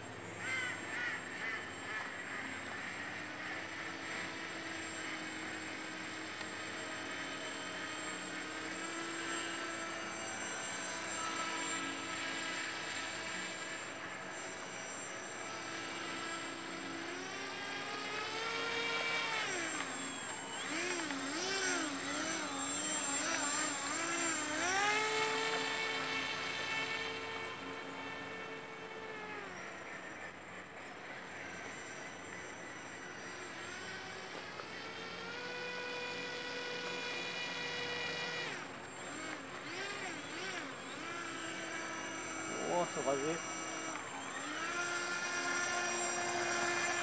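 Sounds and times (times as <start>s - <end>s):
model boat motor whining: 0.0s - 47.0s.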